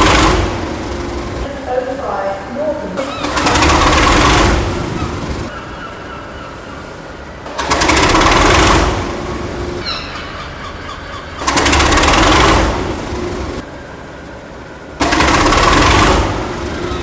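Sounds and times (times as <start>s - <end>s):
diesel locomotive engine clattering: 0.0s - 17.0s.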